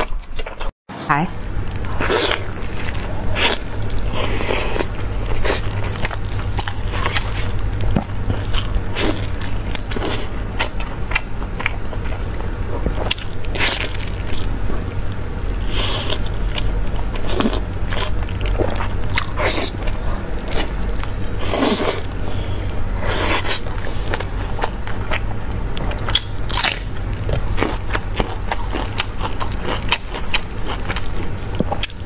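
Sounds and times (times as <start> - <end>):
steady low hum: 0.0 - 32.0
chewing meat off the bone: 1.4 - 32.0.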